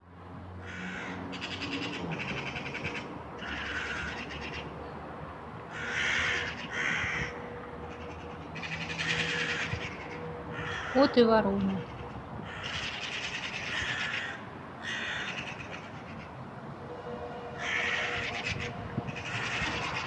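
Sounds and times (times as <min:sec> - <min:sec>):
crows cawing: 0:00.6 - 0:04.8, 0:05.7 - 0:16.5, 0:17.3 - 0:20.0.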